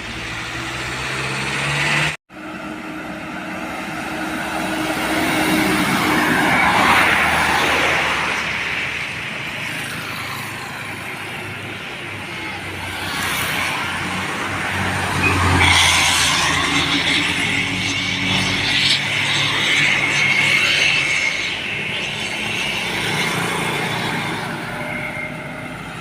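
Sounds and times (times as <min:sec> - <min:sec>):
road vehicles passing: 0:00.0 - 0:26.0.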